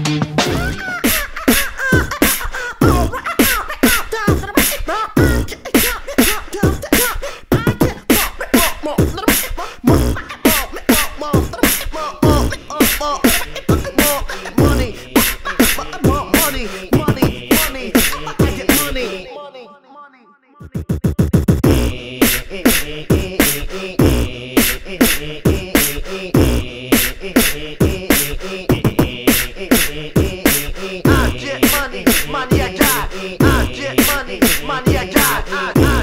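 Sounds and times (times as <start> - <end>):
person beatboxing: 0.4 - 19.3, 20.6 - 36.0.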